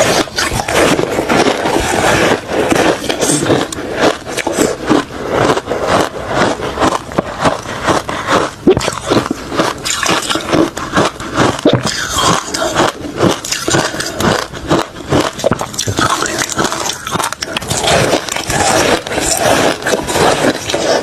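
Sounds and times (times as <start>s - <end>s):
ice being crunched and chewed: 0.0s - 21.0s.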